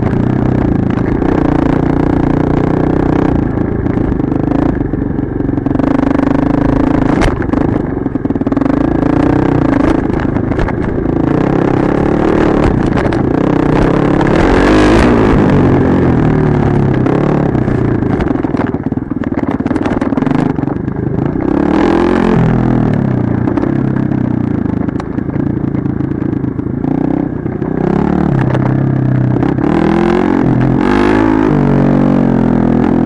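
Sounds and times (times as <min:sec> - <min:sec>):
dirt bike engine revving: 0:00.0 - 0:23.8, 0:26.9 - 0:33.0
bike clattering over rough track: 0:00.0 - 0:26.6.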